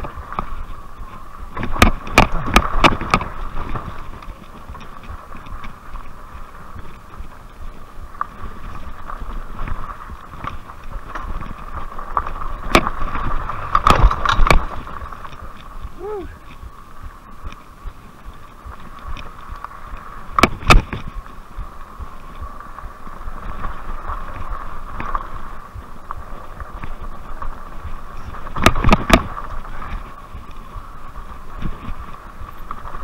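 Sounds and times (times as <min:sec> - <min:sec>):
bike rattling over bumps: 0:00.0 - 0:33.0
electric bike hum and rumble: 0:00.0 - 0:33.0
wind on microphone: 0:00.0 - 0:33.0.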